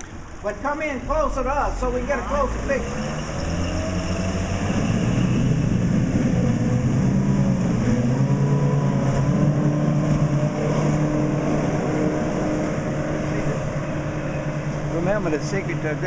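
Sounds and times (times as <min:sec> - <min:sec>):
outboard motor droning: 0:01.1 - 0:16.0.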